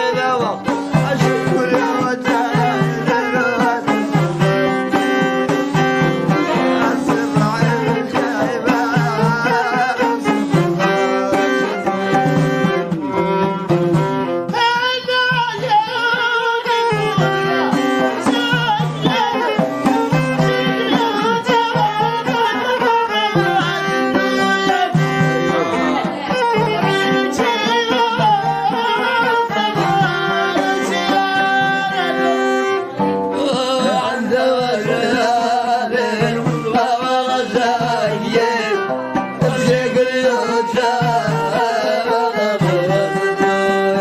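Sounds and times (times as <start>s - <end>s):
hand drum rhythm: 0.0s - 44.0s.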